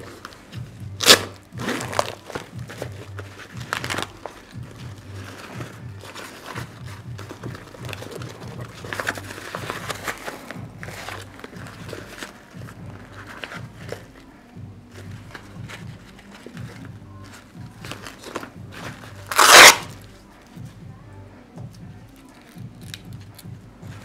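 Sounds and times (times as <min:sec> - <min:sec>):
nylon pouch rustling: 0:00.0 - 0:20.7
background music with low beat: 0:00.0 - 0:24.0.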